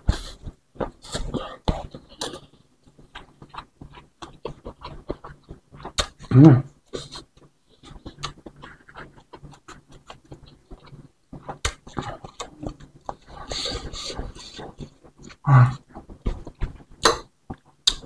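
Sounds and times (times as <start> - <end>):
close-miked chewing: 0.0 - 18.0.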